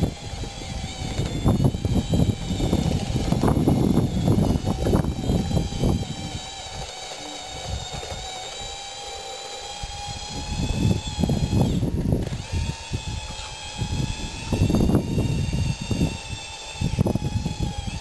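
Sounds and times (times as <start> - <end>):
model bulldozer motors whining: 0.0 - 18.0.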